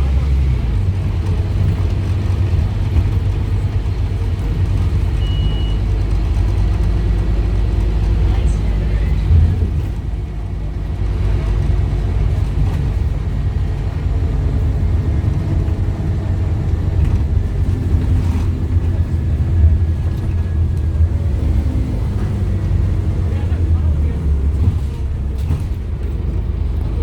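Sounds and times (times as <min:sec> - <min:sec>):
bus diesel engine droning: 0:00.0 - 0:27.0.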